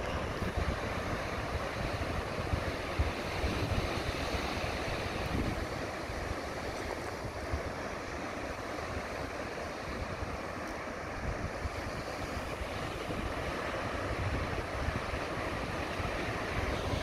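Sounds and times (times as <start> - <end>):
ocean surf washing ashore: 0.0 - 17.0
wind buffeting microphone: 0.0 - 17.0.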